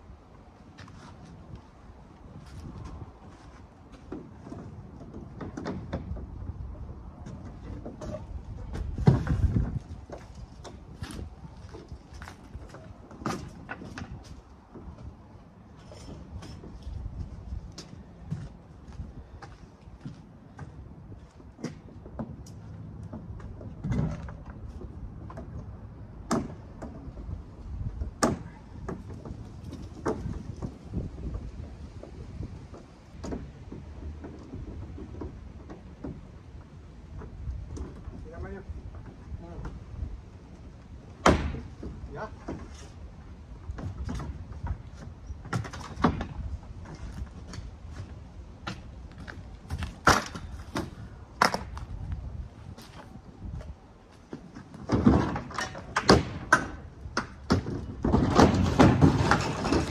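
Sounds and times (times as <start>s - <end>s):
plastic shed knocks and clatter: 2.4s - 17.2s, 20.0s - 39.9s, 41.2s - 51.8s, 54.2s - 59.9s.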